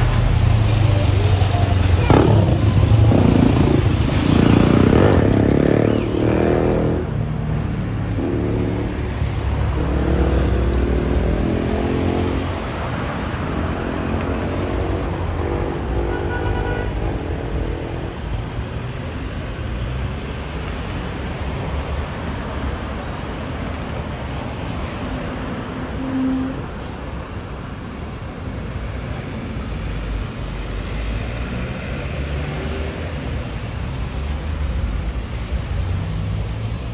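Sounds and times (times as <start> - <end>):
low traffic rumble: 0.0 - 36.9.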